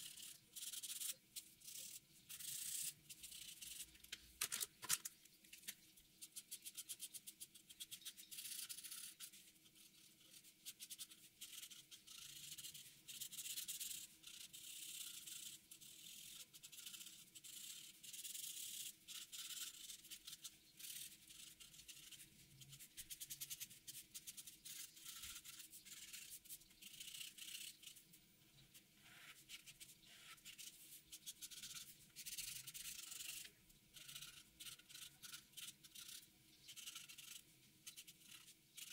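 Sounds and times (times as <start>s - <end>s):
marker scratching on paper: 0.0s - 4.6s, 6.2s - 28.1s, 28.7s - 38.9s.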